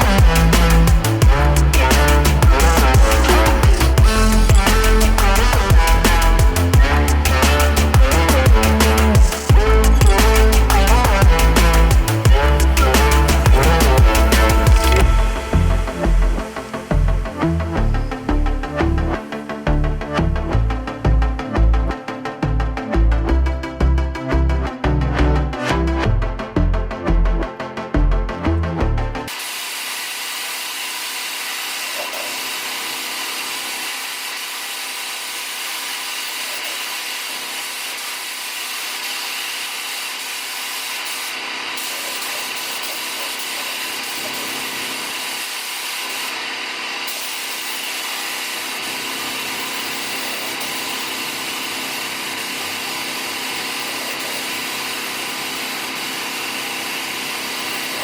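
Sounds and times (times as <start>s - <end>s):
machine humming and hissing: 0.0s - 19.8s, 29.3s - 58.0s.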